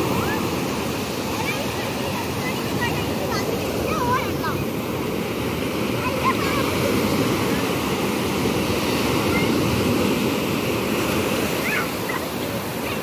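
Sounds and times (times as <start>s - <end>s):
sea surf breaking: 0.0s - 13.0s.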